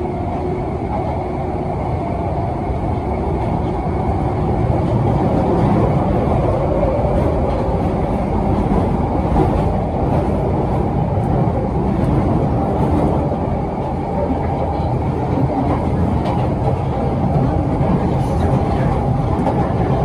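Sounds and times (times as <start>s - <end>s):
tube train rumbling in tunnel: 0.0s - 20.0s.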